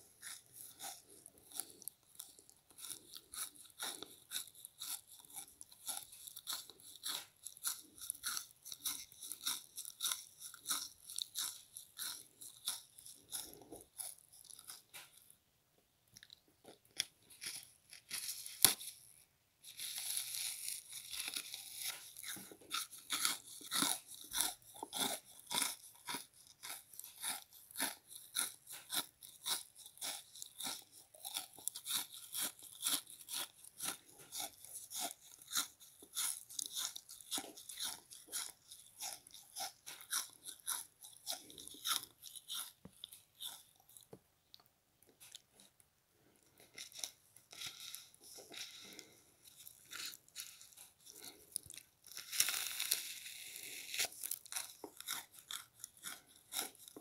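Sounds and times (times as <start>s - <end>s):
person chewing crunchy sponge: 0.0s - 15.4s, 16.1s - 57.0s.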